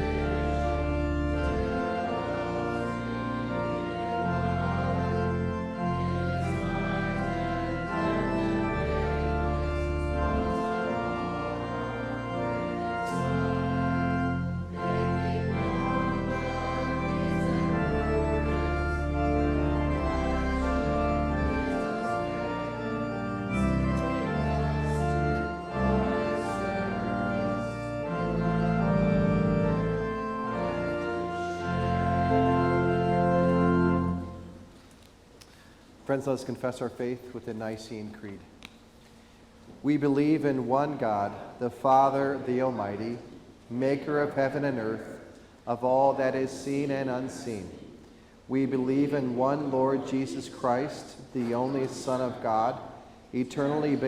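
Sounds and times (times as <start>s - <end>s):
church organ playing chords: 0.0s - 38.4s, 39.1s - 54.0s.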